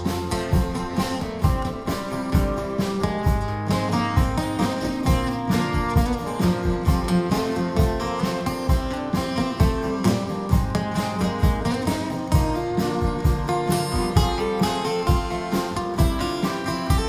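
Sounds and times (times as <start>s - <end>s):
acoustic guitars playing: 0.0s - 17.0s.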